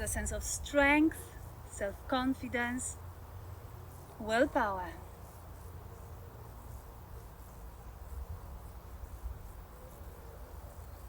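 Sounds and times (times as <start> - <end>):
faint insect sounds: 0.0 - 11.0.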